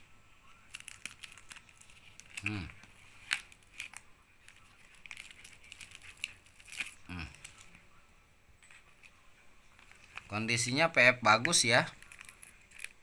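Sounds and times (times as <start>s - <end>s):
plastic wrapping crinkling: 0.6s - 7.8s, 8.6s - 13.0s.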